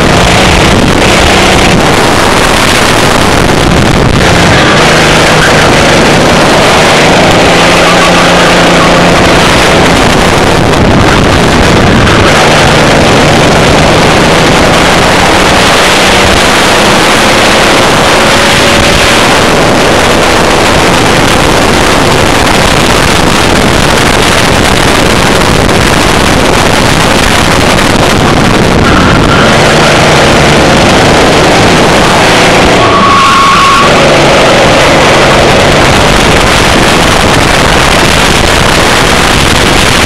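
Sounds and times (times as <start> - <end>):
kart engine: 0.0 - 40.0
wind noise on microphone: 0.0 - 40.0.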